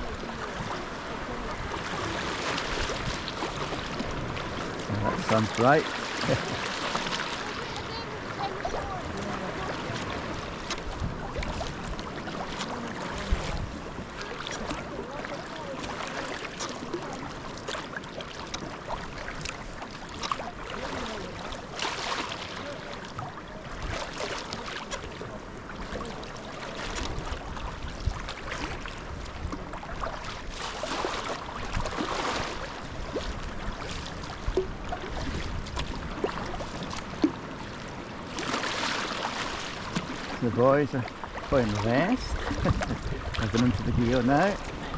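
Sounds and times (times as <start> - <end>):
paddle blades splashing: 0.0 - 44.9
wash of sea: 0.0 - 44.9
water lapping against hull: 0.0 - 44.9
wind: 0.0 - 44.9.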